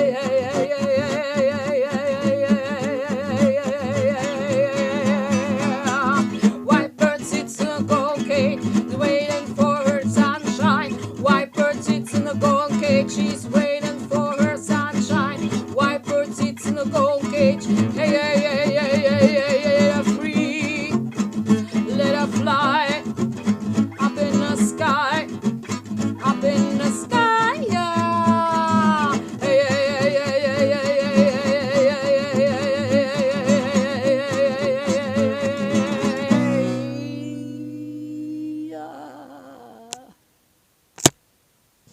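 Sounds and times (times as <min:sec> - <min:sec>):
person singing: 0:00.0 - 0:23.1, 0:23.9 - 0:25.4, 0:26.2 - 0:40.2
acoustic guitar: 0:00.0 - 0:40.2.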